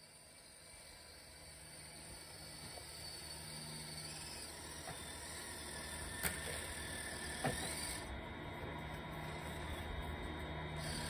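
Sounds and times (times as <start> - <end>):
electric motor and track whir: 0.0 - 11.0.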